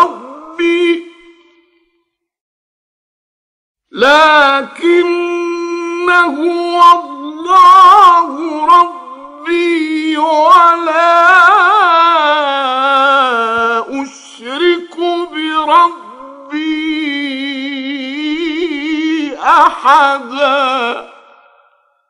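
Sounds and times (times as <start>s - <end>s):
man chanting recitation: 0.0s - 1.6s, 3.9s - 21.3s.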